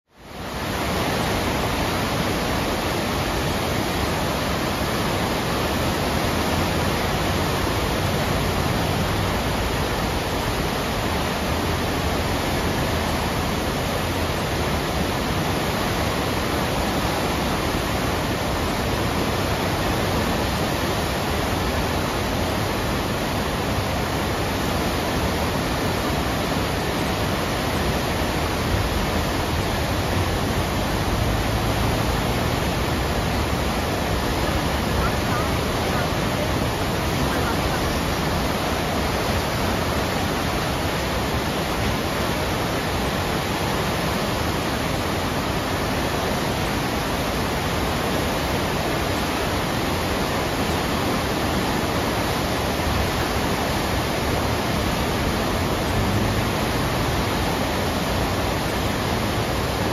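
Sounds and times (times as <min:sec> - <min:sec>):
river rushing through rapids: 0:00.1 - 0:59.9.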